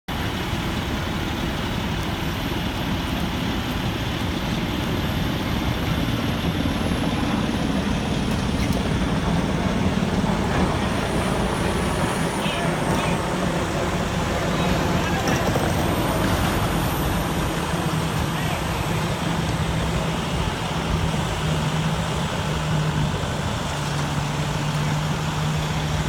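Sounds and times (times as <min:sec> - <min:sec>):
heavy diesel engine running: 0:00.1 - 0:26.0.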